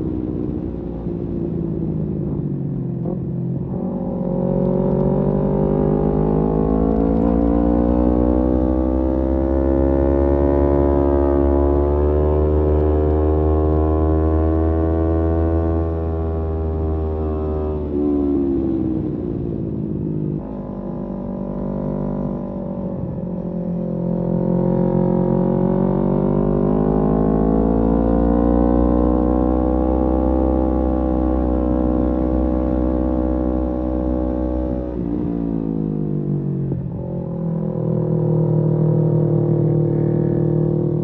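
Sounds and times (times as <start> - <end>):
motorcycle engine revving: 3.0 - 19.5, 20.2 - 41.0.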